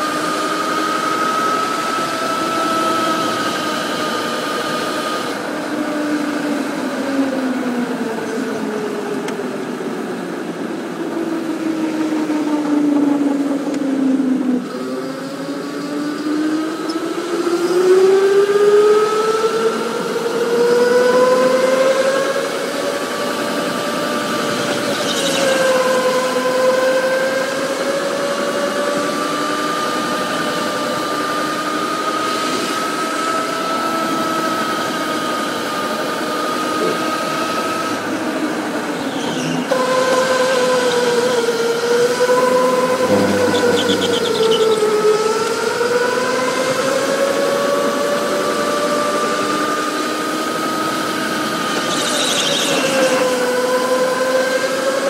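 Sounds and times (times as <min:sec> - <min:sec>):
electric go-kart motor whining: 0:00.0 - 0:55.0.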